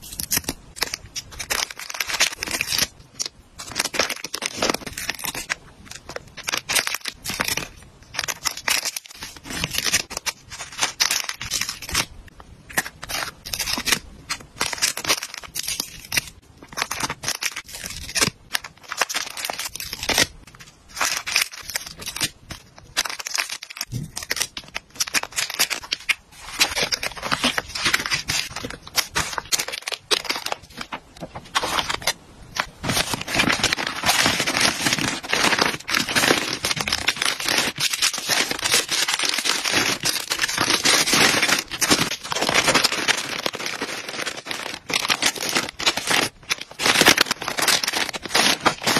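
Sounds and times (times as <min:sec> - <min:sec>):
plastic bags crinkling: 0:00.0 - 0:12.1, 0:12.8 - 0:48.9.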